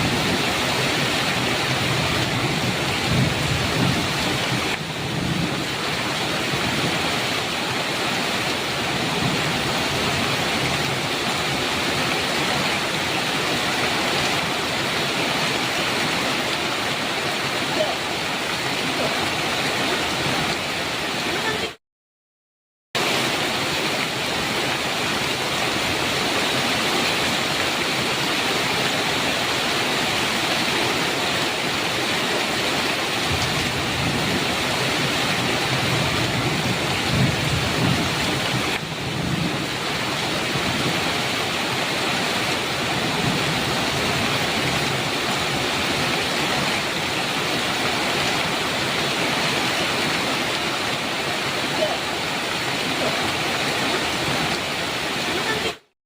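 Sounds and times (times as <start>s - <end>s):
heavy rain on metal roof: 0.0s - 21.8s, 23.0s - 55.9s.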